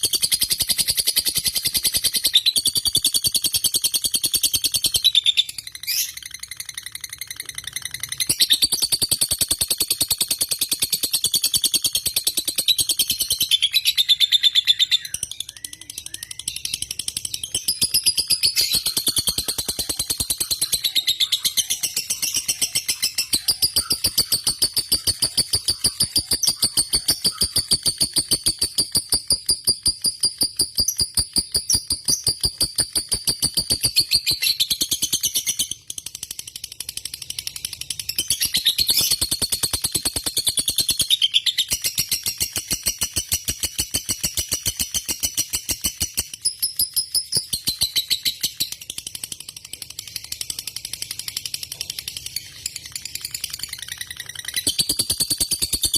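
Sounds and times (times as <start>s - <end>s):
lovebird shrill chattering song: 0.0s - 35.8s, 38.1s - 48.7s.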